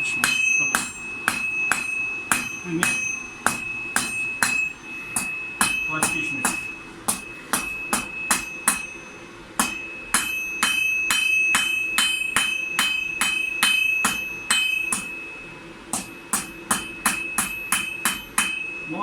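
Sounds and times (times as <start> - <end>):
hammer striking steel on anvil: 0.0 - 19.0
high metallic ringing: 0.0 - 19.0.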